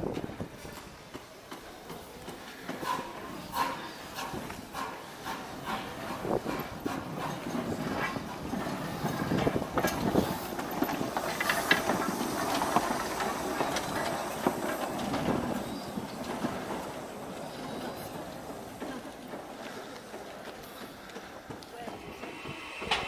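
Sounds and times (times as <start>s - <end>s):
train running on track: 0.0s - 23.0s
wheels clattering on track: 0.0s - 23.0s.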